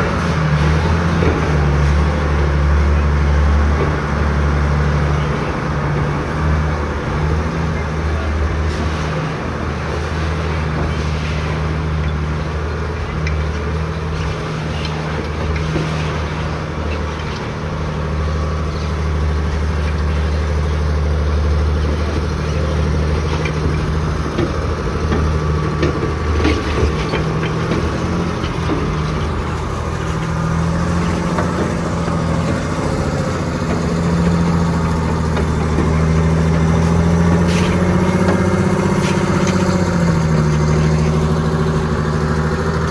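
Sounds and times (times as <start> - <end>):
diesel engine running at low revs: 0.0 - 42.9
steel tracks clanking: 0.0 - 42.9.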